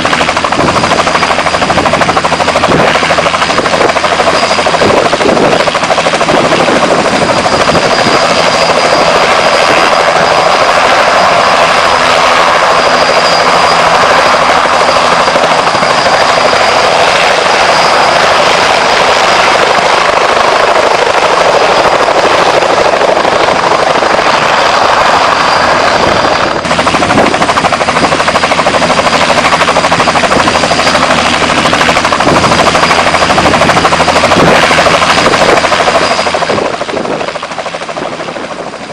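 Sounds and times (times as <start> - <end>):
helicopter flying: 0.0 - 38.9.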